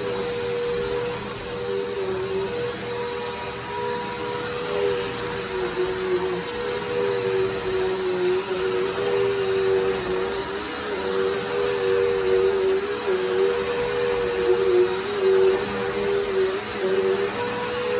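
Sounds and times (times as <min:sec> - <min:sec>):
upright vacuum cleaner running: 0:00.0 - 0:17.9.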